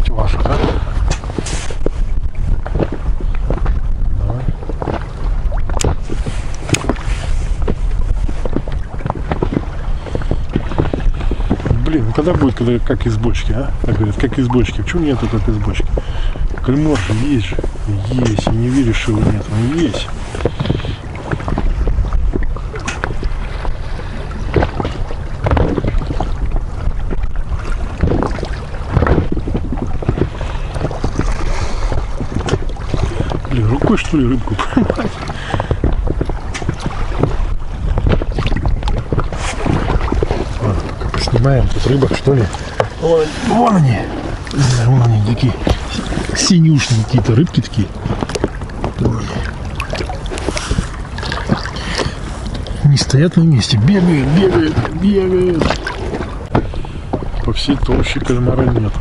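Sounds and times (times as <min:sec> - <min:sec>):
small waves lapping against boat: 0:00.0 - 0:59.0
wind rumbling on microphone: 0:00.0 - 0:59.0.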